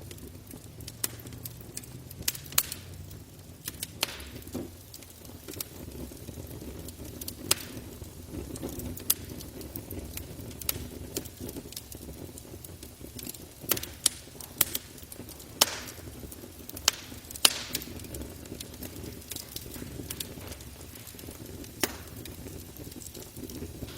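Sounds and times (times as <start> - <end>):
campfire crackling and popping: 0.0 - 23.9
low steady fire rumble: 0.0 - 23.9.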